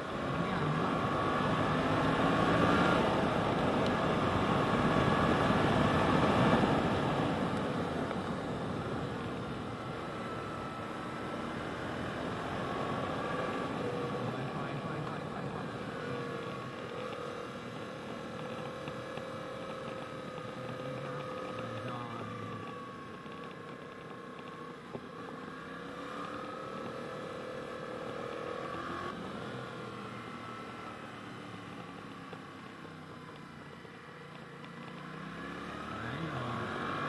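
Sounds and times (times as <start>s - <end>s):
motorcycle engine cruising: 0.0s - 37.0s
wind and road noise: 0.0s - 37.0s.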